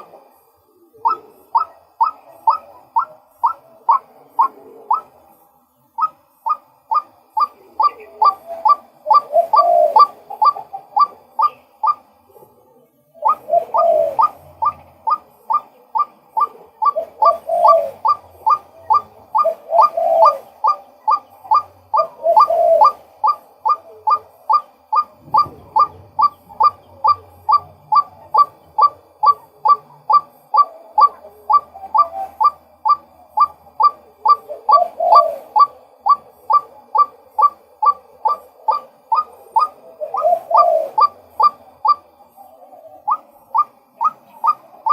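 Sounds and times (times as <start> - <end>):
bird calling sharp repeated notes: 0.0 - 5.3, 5.9 - 12.2, 13.1 - 44.9
lower bird call: 0.0 - 12.3, 13.1 - 44.9.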